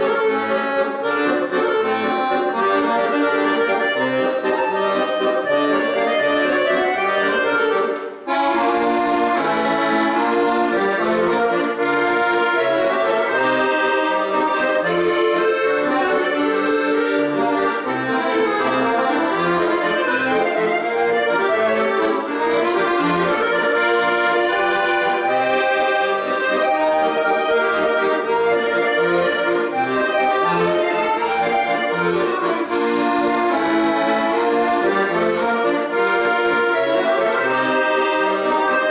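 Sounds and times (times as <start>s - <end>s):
accordion playing: 0.0s - 38.9s.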